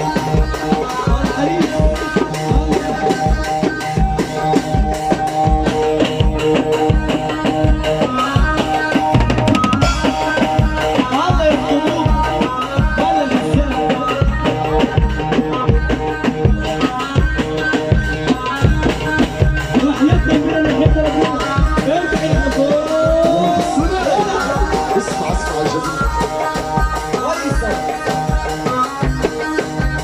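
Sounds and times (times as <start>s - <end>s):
drum kit fast beat: 0.0s - 30.0s
sustained keyboard melody: 0.0s - 30.0s.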